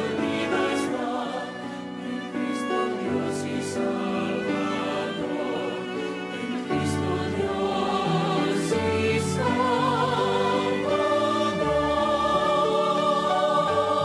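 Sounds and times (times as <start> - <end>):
orchestral strings playing hymn chords: 0.0 - 14.0.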